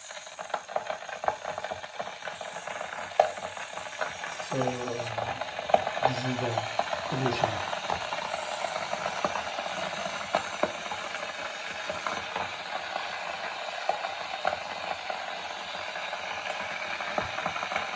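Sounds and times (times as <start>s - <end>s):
kettle hissing: 0.0s - 17.9s
kettle ticks and pops: 0.0s - 17.9s.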